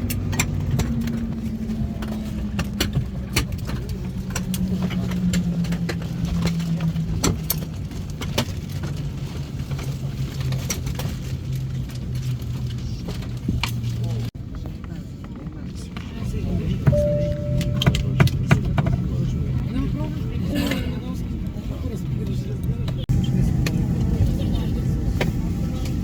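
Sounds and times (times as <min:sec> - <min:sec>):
vehicle hum slowing: 0:00.0 - 0:14.4, 0:16.6 - 0:20.4, 0:21.4 - 0:26.0.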